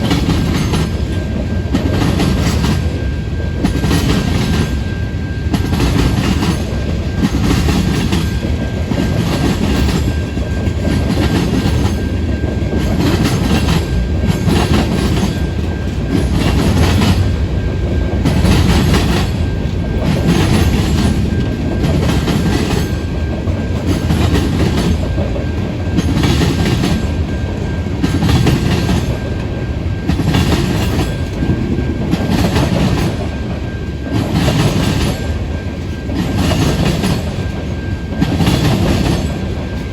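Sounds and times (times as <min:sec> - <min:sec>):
low train rumble: 0:00.0 - 0:39.9
train wheels clacking over rail joints: 0:00.0 - 0:39.9.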